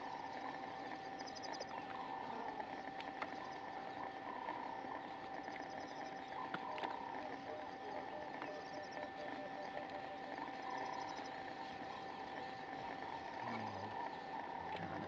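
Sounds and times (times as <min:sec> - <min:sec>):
frogs and insects chorus: 0:00.0 - 0:15.0.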